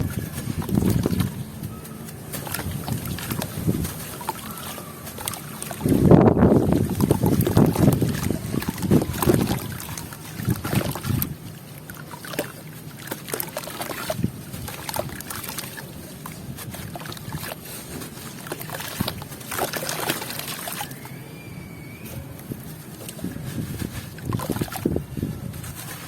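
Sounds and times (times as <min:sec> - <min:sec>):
wind noise on microphone: 0:00.0 - 0:11.6, 0:13.8 - 0:19.5, 0:20.9 - 0:26.0
gritty crackles and crunches: 0:00.0 - 0:26.0.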